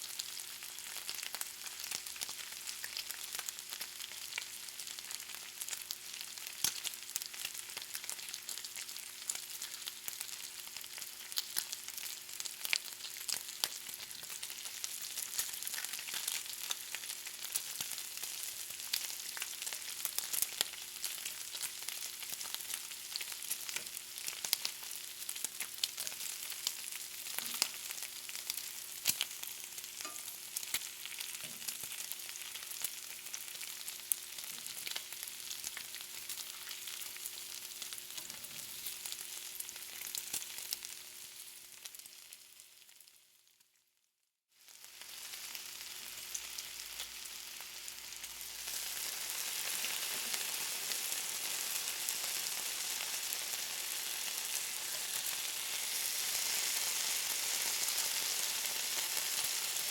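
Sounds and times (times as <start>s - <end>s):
bacon sizzling and popping: 0.0s - 43.7s, 44.6s - 59.9s.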